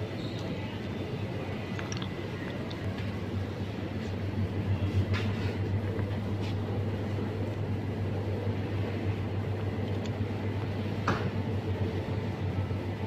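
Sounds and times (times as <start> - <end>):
low hum inside a shop: 0.0 - 13.0.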